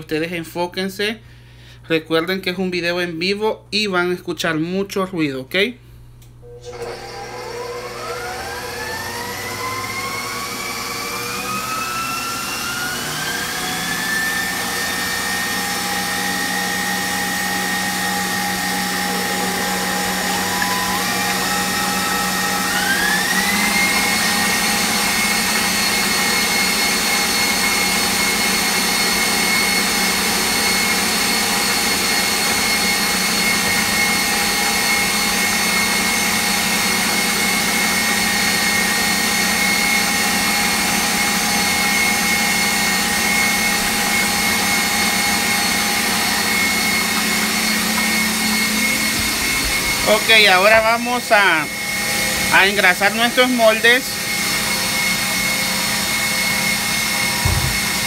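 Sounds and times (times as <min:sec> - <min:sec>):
stand mixer motor whine: 0:06.4 - 0:58.0.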